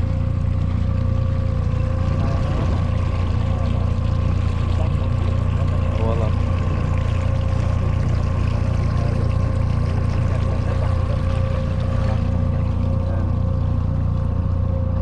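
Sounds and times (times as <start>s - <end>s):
boat engine drone with whine: 0.0s - 15.0s
rushing water: 0.0s - 15.0s.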